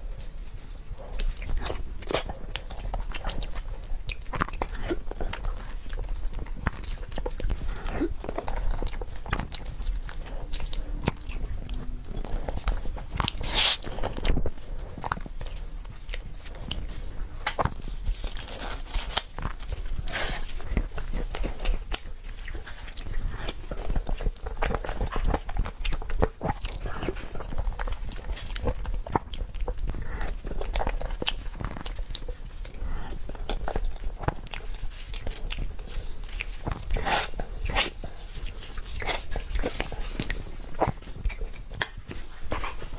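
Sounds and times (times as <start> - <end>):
wet chewing and smacking: 0.0 - 42.9
small clicks and crunches: 0.2 - 42.9.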